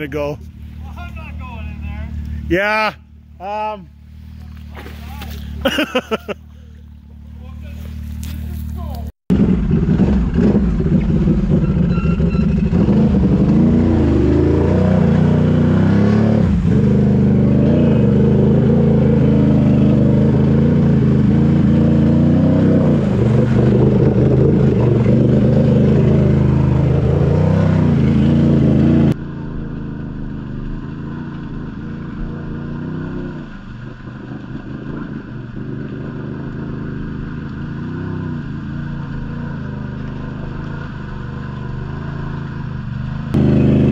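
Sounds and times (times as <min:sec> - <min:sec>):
atv engine revving: 0:04.3 - 0:43.9.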